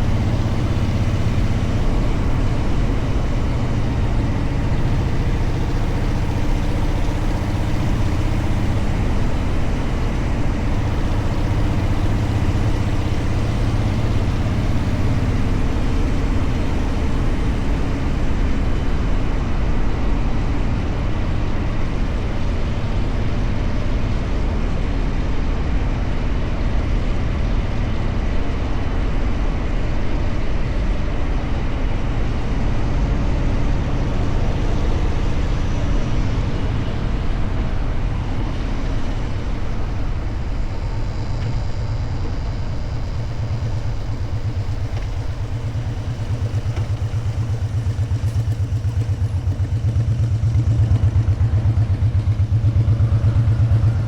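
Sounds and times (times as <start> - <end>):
motorcycle engine running: 0.0 - 54.0
road noise: 0.0 - 54.0.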